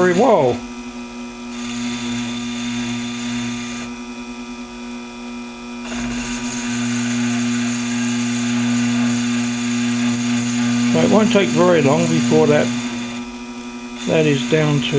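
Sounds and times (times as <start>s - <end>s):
lathe motor hum: 0.0s - 14.9s.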